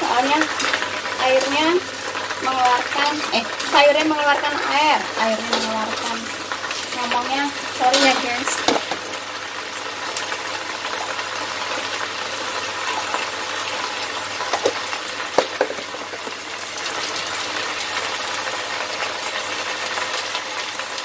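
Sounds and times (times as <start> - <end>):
greens sizzling in a wok: 0.0 - 21.0.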